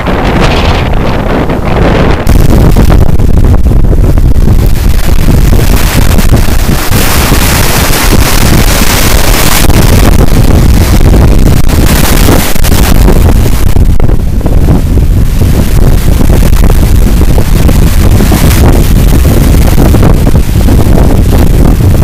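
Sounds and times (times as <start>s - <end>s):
lake waves splashing: 0.0s - 22.0s
wind buffeting microphone: 0.0s - 22.0s.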